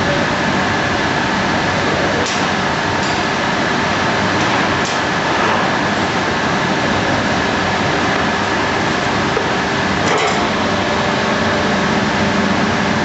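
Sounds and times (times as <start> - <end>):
machine drone and hiss: 0.0 - 13.0.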